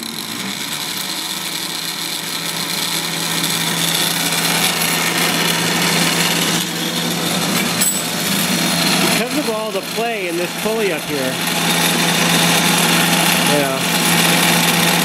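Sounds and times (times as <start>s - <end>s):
drill press whirring: 0.0s - 15.0s.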